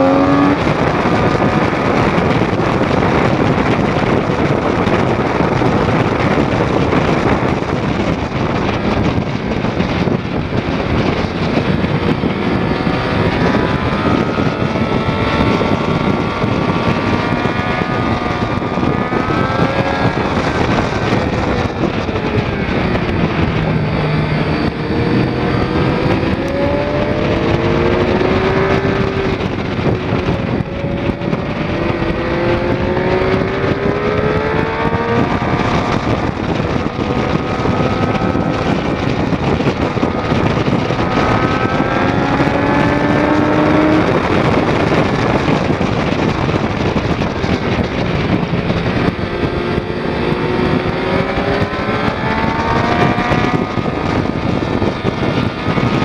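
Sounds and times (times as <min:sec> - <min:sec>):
motorcycle engine running hard: 0:00.0 - 0:56.0
wind rush over microphone: 0:00.0 - 0:56.0.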